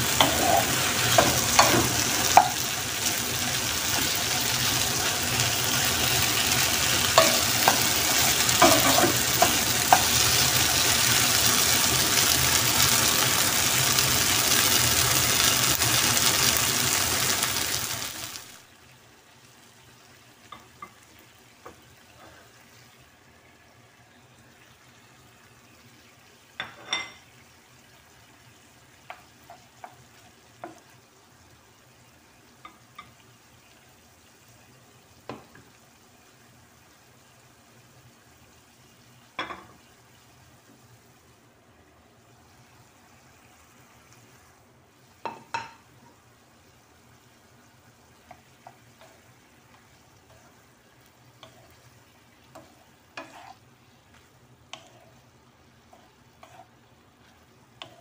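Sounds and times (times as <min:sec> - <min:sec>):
stir-fry sizzling in a pan: 0:00.0 - 0:58.0.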